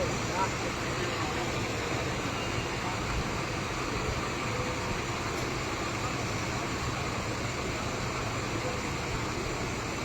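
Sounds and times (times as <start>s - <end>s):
heavy machine engine running: 0.0s - 10.0s.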